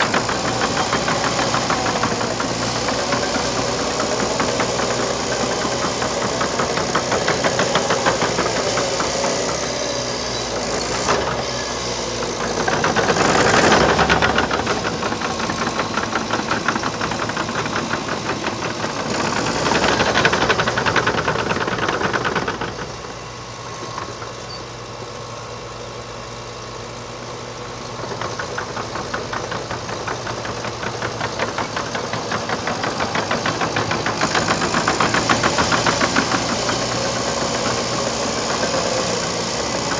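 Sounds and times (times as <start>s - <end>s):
diesel engine pulsing: 0.0s - 24.5s, 26.8s - 39.9s.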